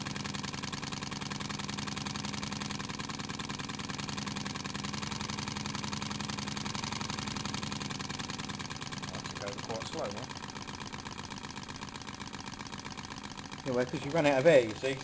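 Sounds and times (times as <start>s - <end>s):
model steam engine running fast: 0.0s - 15.0s.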